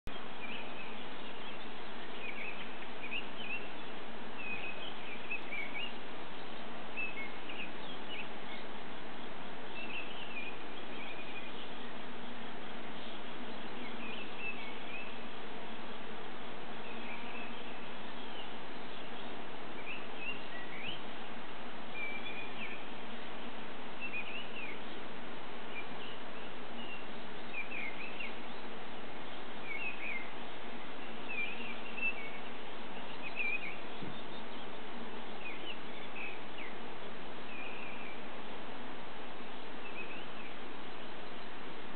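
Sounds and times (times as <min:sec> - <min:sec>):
songbirds chirping and singing: 0:00.1 - 0:41.9
steady background hiss: 0:00.1 - 0:41.9.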